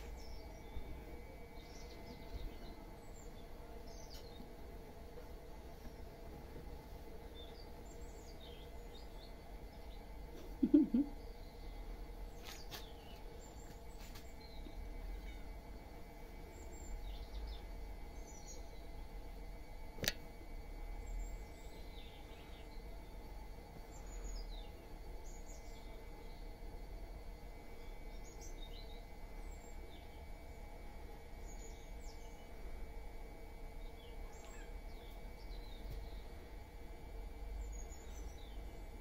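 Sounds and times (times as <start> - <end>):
small birds chirping: 0.0 - 6.4, 7.1 - 19.1, 21.0 - 26.6, 27.7 - 32.8, 33.6 - 36.7, 37.3 - 39.0
steady low noise: 0.0 - 39.0.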